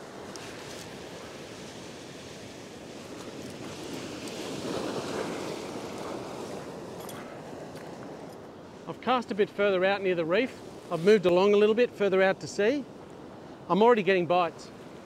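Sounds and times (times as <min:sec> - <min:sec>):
ocean surf breaking on rocks: 0:00.0 - 0:15.0.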